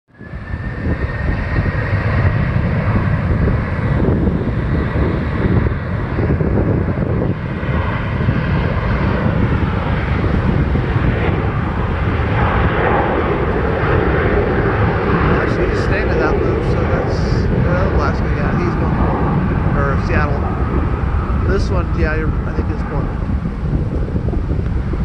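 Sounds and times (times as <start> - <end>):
jet engines rumbling: 0.1 - 25.0.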